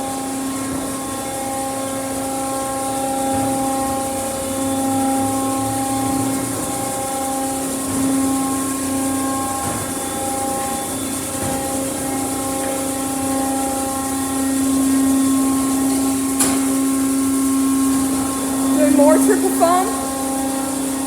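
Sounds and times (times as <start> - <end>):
car wash machine hum: 0.0 - 21.0.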